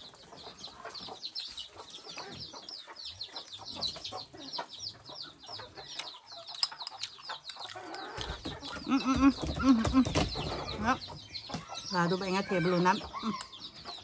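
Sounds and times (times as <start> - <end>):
chickens clucking and chirping: 0.0 - 14.0.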